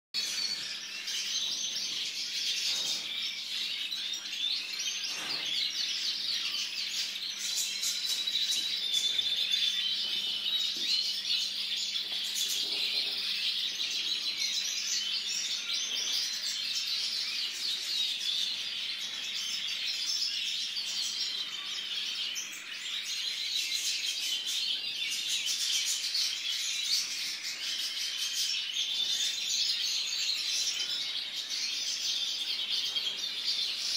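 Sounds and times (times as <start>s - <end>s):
songbirds twittering and trilling: 0.1s - 33.9s.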